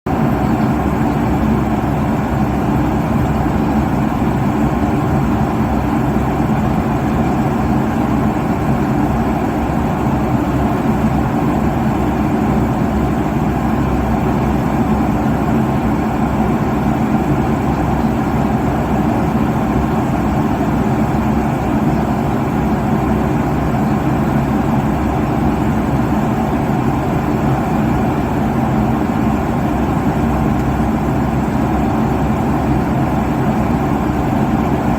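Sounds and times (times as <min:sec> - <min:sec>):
jet engine hum: 0:00.1 - 0:34.9.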